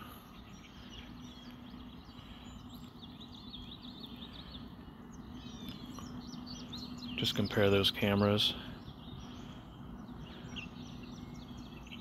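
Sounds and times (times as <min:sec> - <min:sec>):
songbird chirping: 0:00.0 - 0:12.0
steady low hum: 0:00.0 - 0:12.0.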